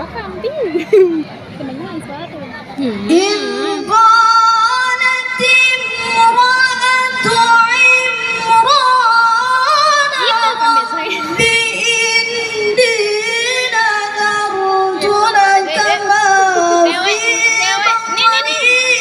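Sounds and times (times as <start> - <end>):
child reciting melodically: 2.8 - 19.0.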